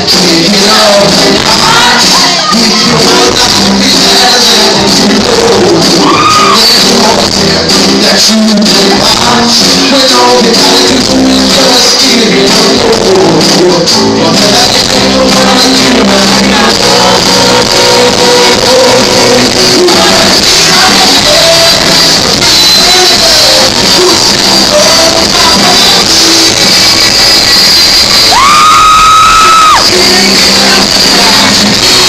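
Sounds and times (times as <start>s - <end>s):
live rock band playing: 0.0s - 32.0s
person singing: 0.0s - 32.0s.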